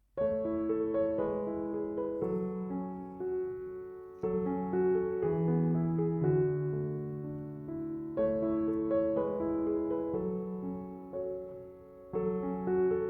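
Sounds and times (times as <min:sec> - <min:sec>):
piano music: 0:00.2 - 0:13.0.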